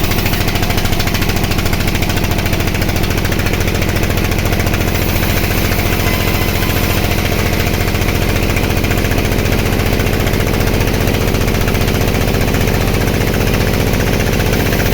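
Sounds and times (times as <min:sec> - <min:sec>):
band saw running: 0:00.0 - 0:14.9.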